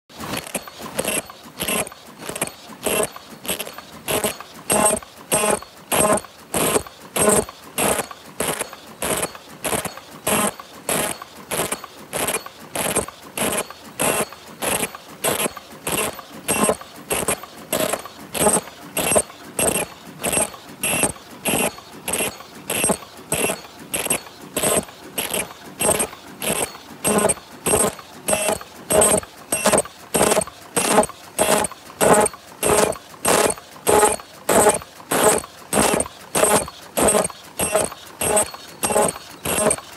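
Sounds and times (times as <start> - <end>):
paper cup machine clattering: 0.1 - 5.0, 5.8 - 39.9.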